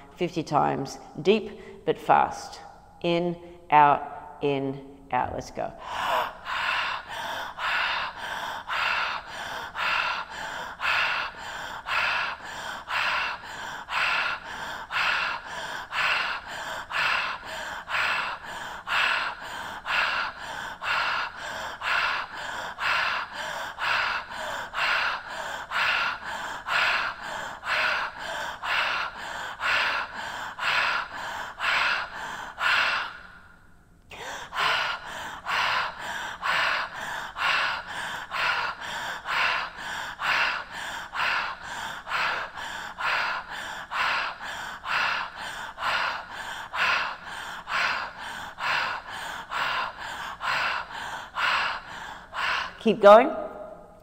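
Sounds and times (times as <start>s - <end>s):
woman breathing deep and fast: 0.0s - 1.9s, 5.8s - 54.0s.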